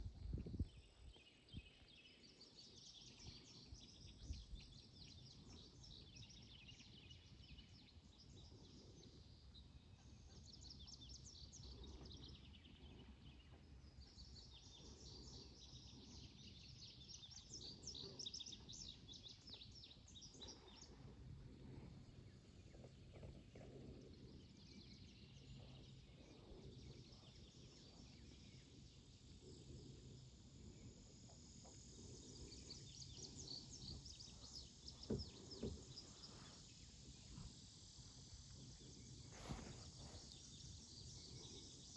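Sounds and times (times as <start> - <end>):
birds chirping: 1.0 - 41.9.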